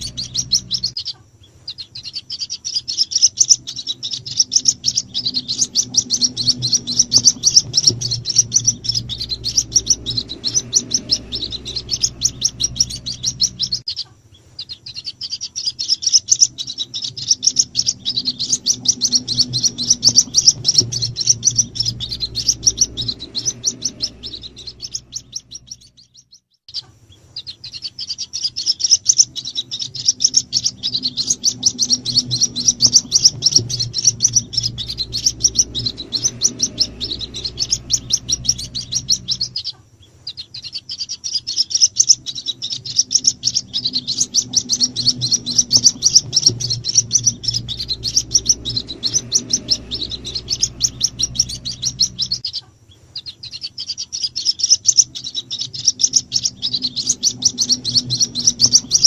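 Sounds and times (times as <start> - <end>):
chicks peeping rapidly: 0.0 - 59.0.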